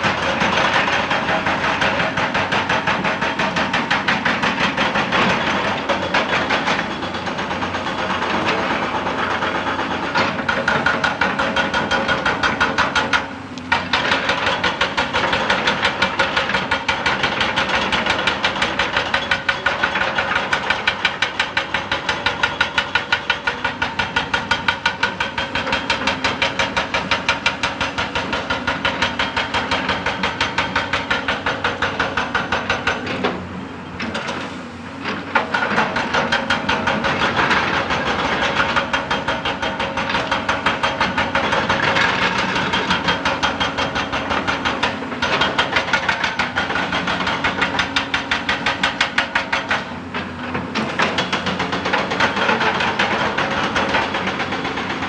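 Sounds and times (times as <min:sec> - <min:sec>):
hydraulic rock breaker hammering: 0:00.0 - 0:55.0
machine engine: 0:00.0 - 0:55.0.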